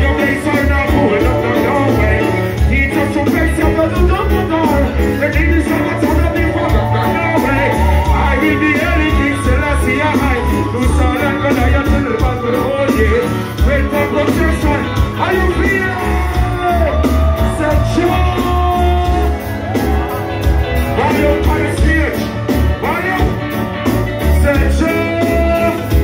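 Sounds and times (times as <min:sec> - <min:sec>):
man singing: 0:00.0 - 0:19.4, 0:20.8 - 0:23.4, 0:24.3 - 0:26.0
live reggae band playing: 0:00.0 - 0:26.0.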